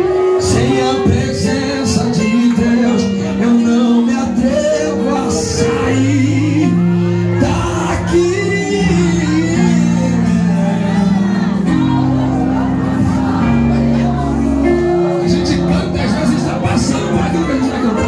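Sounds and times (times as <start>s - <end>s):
held keyboard chords: 0.0s - 18.0s
person singing: 0.0s - 18.0s.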